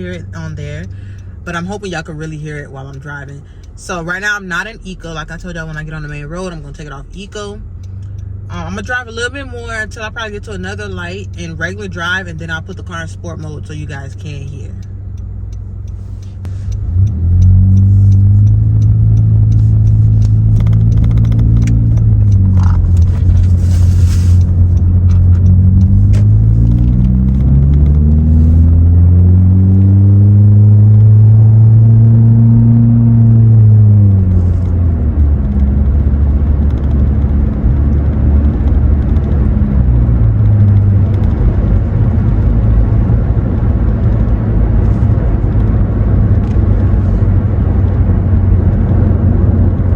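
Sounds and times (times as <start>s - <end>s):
car engine droning: 0.0s - 49.9s.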